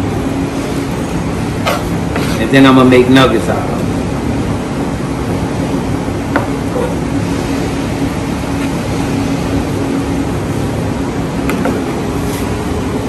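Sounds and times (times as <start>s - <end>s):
kitchen machinery hum: 0.0s - 13.0s.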